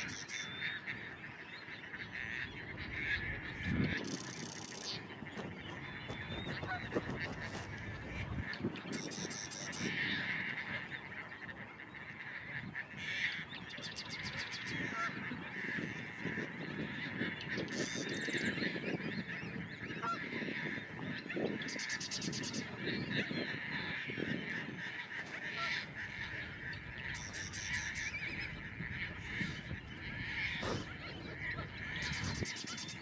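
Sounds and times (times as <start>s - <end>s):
birds honking: 0.0s - 33.0s.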